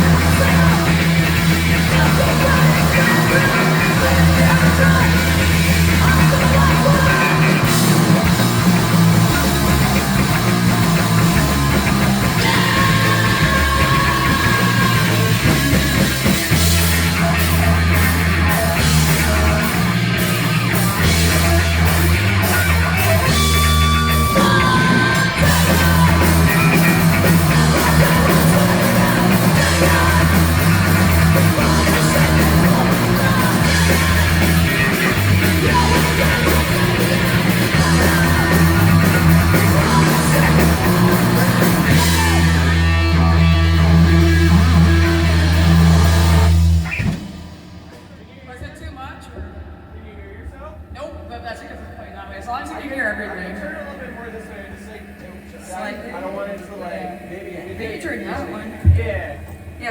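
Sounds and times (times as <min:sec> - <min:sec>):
yelled vocals: 0:00.0 - 0:47.2, 0:54.5 - 0:59.9
drums with cymbal crashes: 0:00.0 - 0:49.6
bass and guitar: 0:00.0 - 0:50.0.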